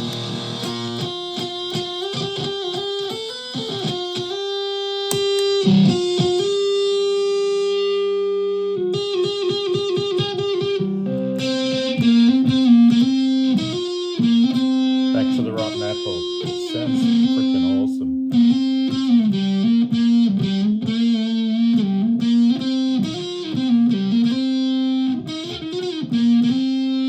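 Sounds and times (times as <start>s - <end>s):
electric ukulele picked notes: 0.0s - 8.2s, 8.8s - 27.0s.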